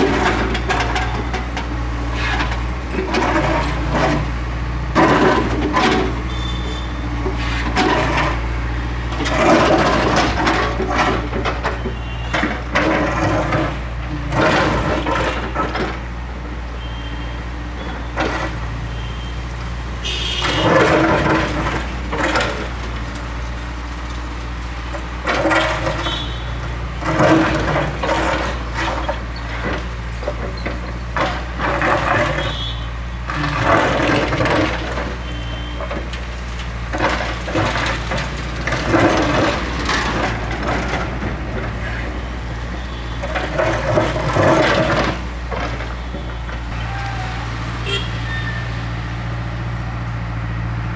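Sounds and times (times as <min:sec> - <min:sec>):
bucket scraping against concrete: 0:00.0 - 0:16.1, 0:20.0 - 0:23.3, 0:25.0 - 0:47.0
diesel engine under load: 0:00.0 - 0:50.9.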